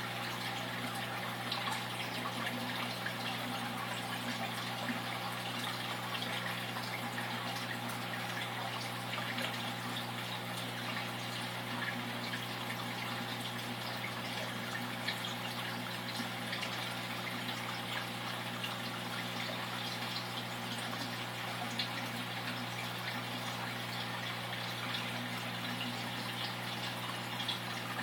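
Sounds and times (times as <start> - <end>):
aquarium water trickling and bubbling: 0.0 - 28.0.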